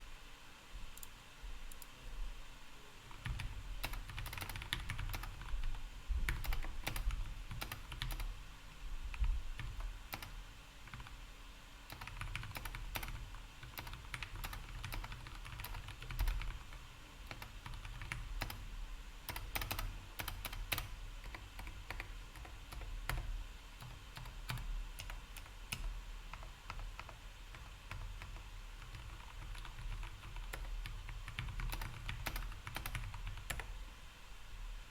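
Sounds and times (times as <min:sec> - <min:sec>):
mechanical keyboard typing: 0:03.1 - 0:08.4, 0:09.1 - 0:11.2, 0:11.9 - 0:33.8.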